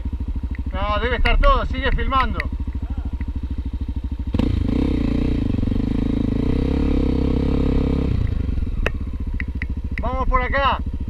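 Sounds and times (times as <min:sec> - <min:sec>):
motorcycle engine idling: 0:00.0 - 0:11.0
motorcycle engine revving: 0:00.0 - 0:11.0.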